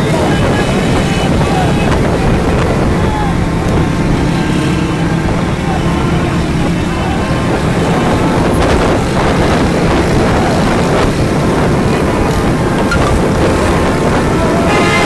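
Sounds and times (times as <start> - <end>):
road traffic rumble: 0.0 - 15.0
wind buffeting microphone: 0.0 - 15.0.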